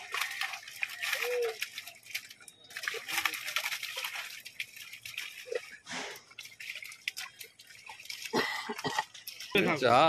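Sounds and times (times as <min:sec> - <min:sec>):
fish flapping and splashing: 0:00.0 - 0:10.0.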